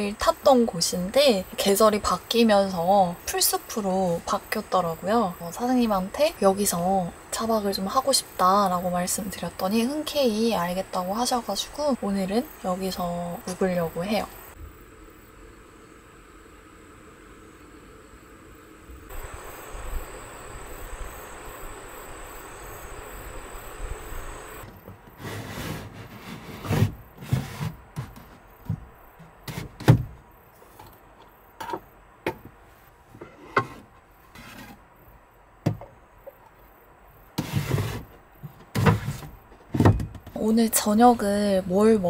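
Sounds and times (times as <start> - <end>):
steady hiss: 0.0 - 35.5.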